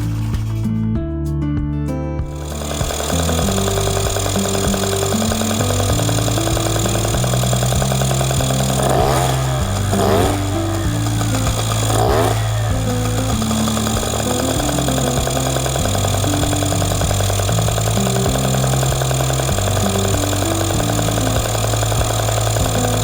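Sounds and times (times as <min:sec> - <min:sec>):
background music with bass line: 0:00.0 - 0:23.0
scooter engine revving: 0:02.4 - 0:23.0.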